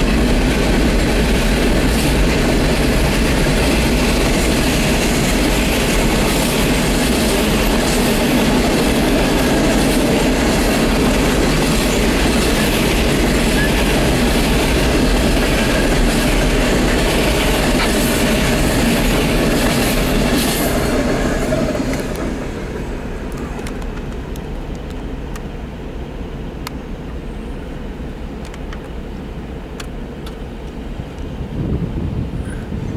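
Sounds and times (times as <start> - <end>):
clicks of train wheels: 0.0 - 25.7, 26.6 - 27.2, 28.3 - 31.3
train cars rolling on rails: 0.0 - 32.9.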